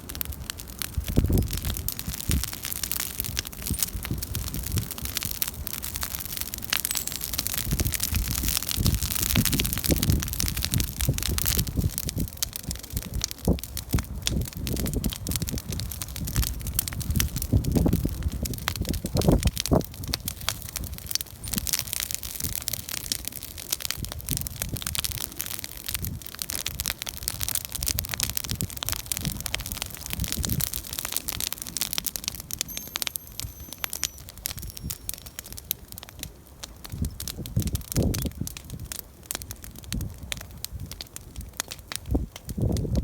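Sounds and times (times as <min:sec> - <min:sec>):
campfire crackling: 0:00.0 - 0:43.0.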